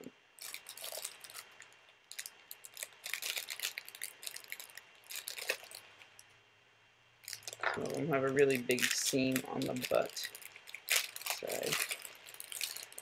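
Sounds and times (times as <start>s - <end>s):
crinkly rustles: 0.4s - 6.3s, 7.2s - 13.0s.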